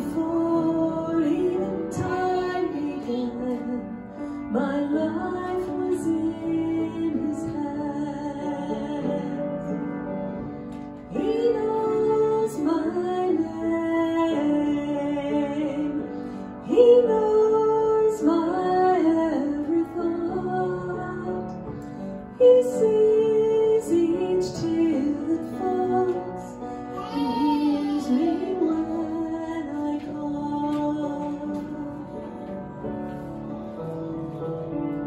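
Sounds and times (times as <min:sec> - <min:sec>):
woman singing worship song: 0:00.0 - 0:09.7, 0:11.1 - 0:34.0.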